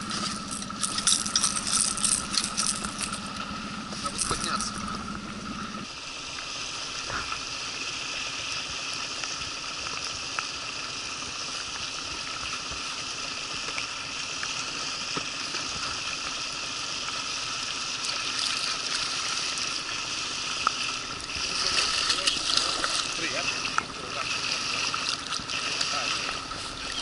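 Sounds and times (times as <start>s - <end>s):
river current rushing: 0.0s - 27.0s.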